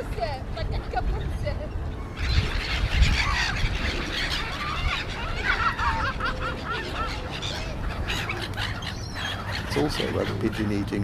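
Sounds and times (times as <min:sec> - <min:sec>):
waterbirds calling: 0:00.0 - 0:11.0.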